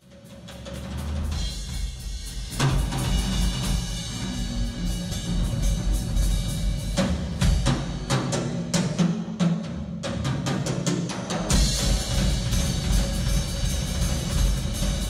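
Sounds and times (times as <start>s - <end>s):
drum rolls: 0.5s - 15.0s.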